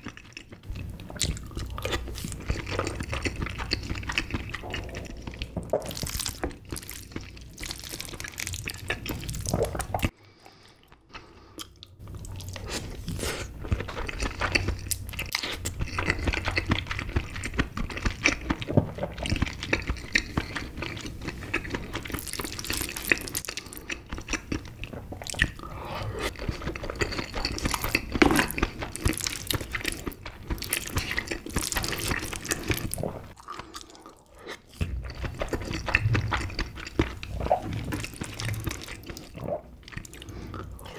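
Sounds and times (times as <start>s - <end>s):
wet chewing: 0.0s - 40.9s.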